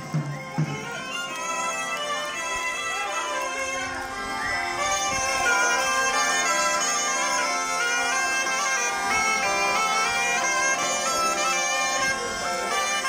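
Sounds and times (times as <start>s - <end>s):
bagpipe drone and melody: 0.0s - 13.0s
wooden shawm melody: 0.0s - 13.0s.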